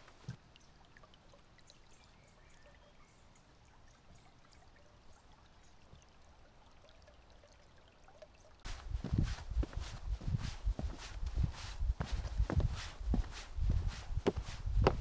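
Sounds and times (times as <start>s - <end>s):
faint trickle of running water: 0.0s - 14.9s.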